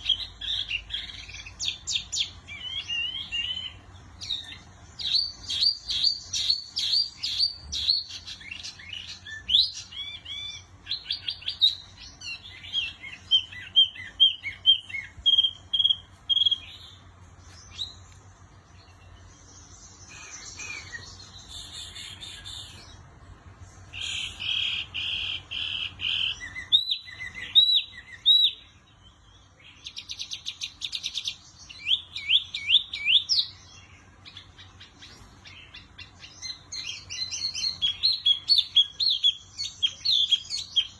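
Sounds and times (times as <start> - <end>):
small songbird singing: 0.0 - 40.9.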